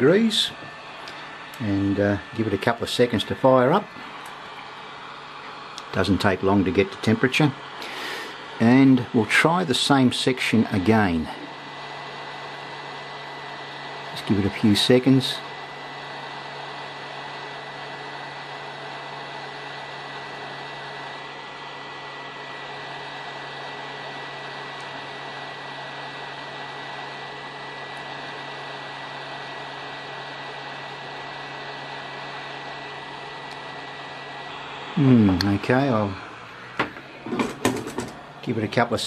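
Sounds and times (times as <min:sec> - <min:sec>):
fan whine and hum: 0:00.0 - 0:39.0
hot air blower rushing: 0:00.0 - 0:39.0.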